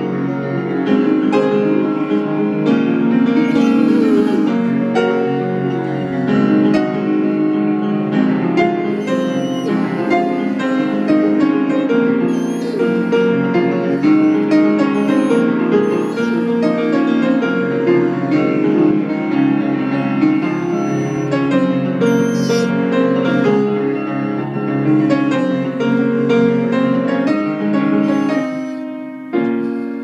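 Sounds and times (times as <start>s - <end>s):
piano playing: 0.0s - 30.0s
dog howling: 2.8s - 7.6s, 8.6s - 30.0s.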